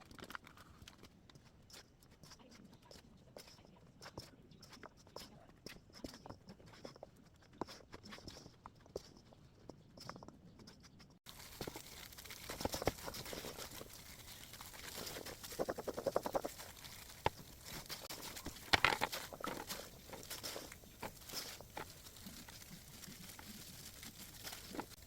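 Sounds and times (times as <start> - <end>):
small clicks and rattles in a bowl: 0.0 - 25.0.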